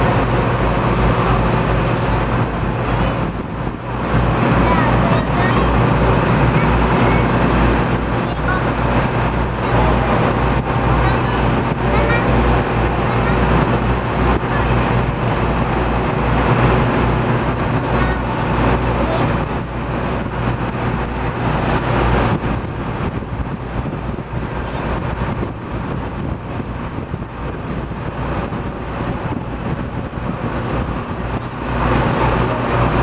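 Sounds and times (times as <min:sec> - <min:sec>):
boat engine hum: 0:00.0 - 0:33.0
churning water and wind rush: 0:00.0 - 0:33.0.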